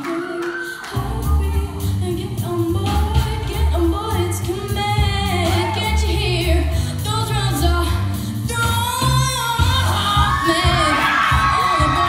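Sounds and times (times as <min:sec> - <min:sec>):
girl singing jazz into microphone: 0:00.0 - 0:12.0
low bass notes: 0:01.0 - 0:12.0.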